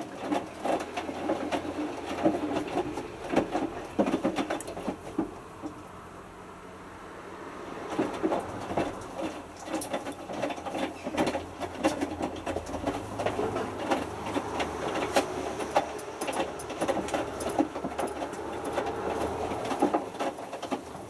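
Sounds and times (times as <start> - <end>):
water sloshing in drum: 0.0 - 5.8, 7.2 - 20.9
washing machine motor hum: 0.0 - 21.0.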